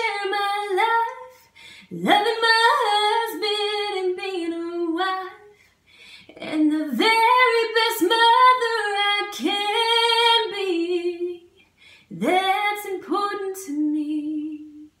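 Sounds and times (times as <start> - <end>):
woman singing a cappella: 0.0 - 15.0.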